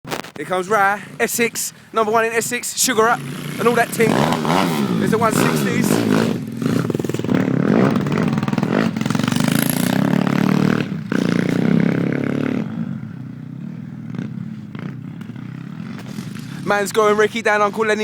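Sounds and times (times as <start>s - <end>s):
motorbike engine revving: 0.6s - 17.6s.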